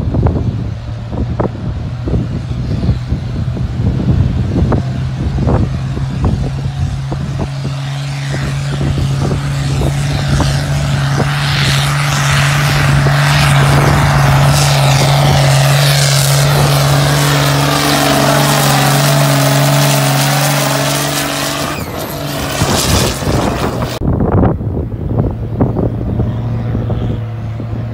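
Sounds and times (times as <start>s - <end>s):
tractor diesel engine droning: 0.0s - 27.9s.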